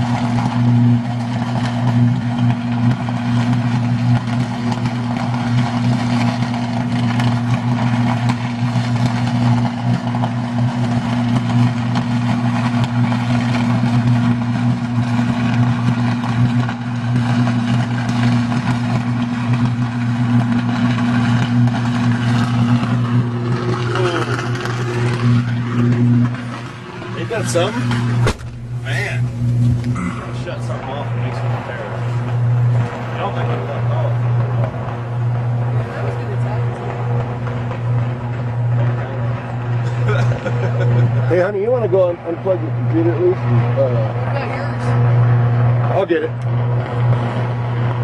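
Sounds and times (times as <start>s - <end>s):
electrical arc buzzing: 0.0s - 48.0s
higher electrical hum: 0.0s - 48.0s.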